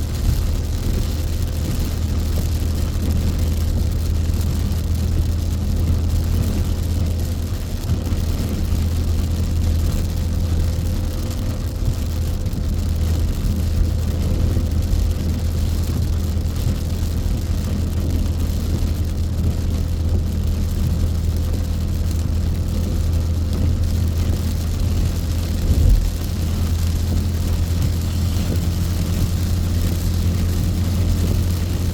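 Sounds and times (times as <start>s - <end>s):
car driving drone inside cabin: 0.0s - 31.9s
tyres hissing on wet road: 0.0s - 31.9s.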